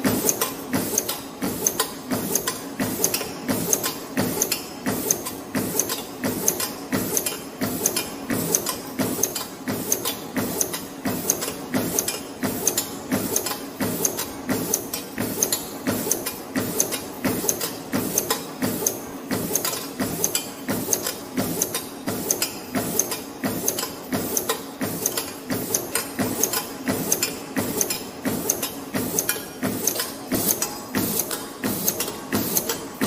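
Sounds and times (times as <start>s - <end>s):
machine clattering clicks and knocks: 0.0s - 33.0s.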